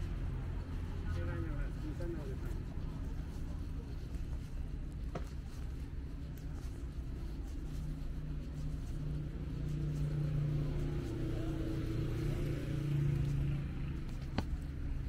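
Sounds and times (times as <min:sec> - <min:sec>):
street traffic: 0:00.0 - 0:15.0
vehicle engine running: 0:00.0 - 0:15.0.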